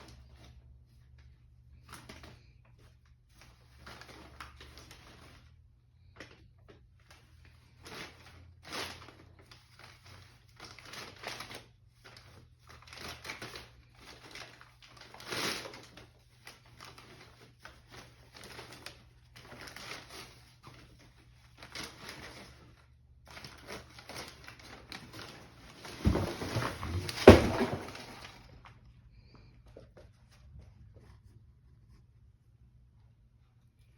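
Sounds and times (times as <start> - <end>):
paper crinkling and rustling: 0.0 - 28.5.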